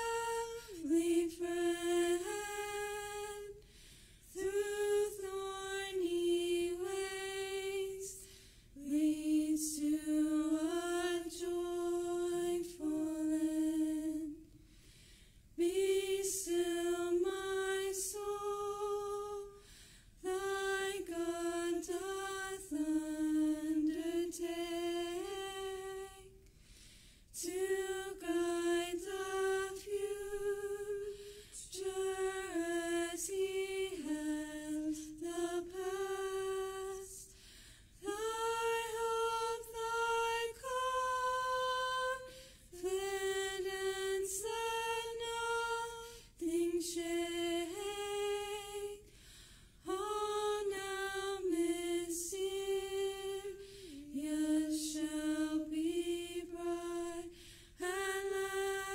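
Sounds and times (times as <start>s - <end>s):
women singing unaccompanied: 0.0s - 3.7s, 4.3s - 14.6s, 15.6s - 26.5s, 27.3s - 37.4s, 38.0s - 49.1s, 49.8s - 58.9s.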